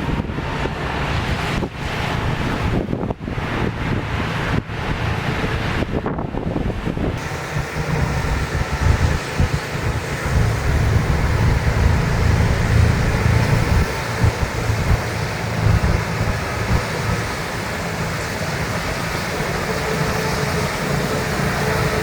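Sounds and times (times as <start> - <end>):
heavy vehicle engines rumbling: 0.0 - 22.0.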